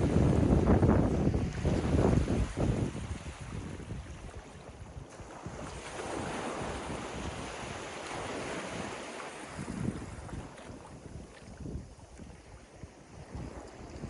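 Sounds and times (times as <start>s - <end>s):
ocean waves washing up beach: 0.0s - 14.0s
wind gusting on microphone: 0.0s - 14.0s.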